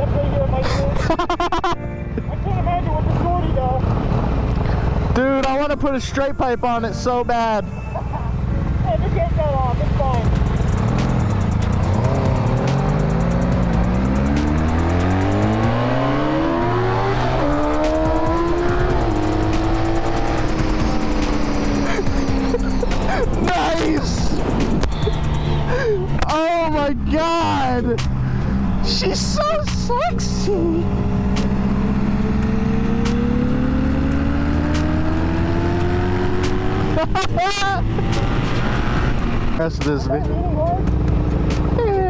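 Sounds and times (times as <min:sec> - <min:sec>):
motorcycle engine accelerating: 0:02.6 - 0:05.6, 0:07.7 - 0:42.0.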